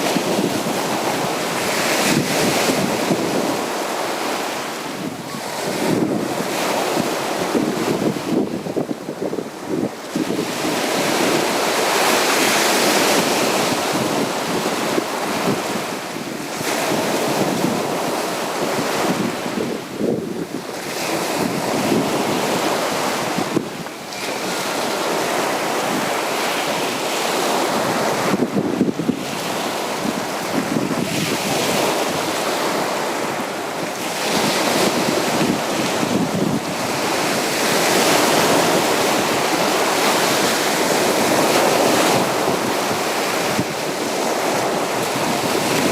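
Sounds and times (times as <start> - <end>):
sea waves breaking on beach: 0.0 - 45.9
wind: 0.0 - 45.9.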